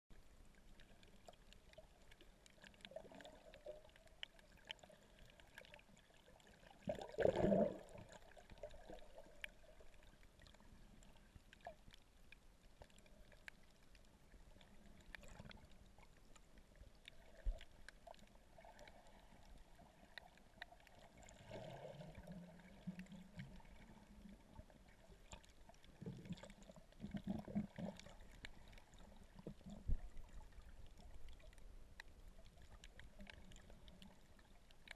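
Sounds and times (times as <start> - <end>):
small underwater clicks: 0.1 - 34.9.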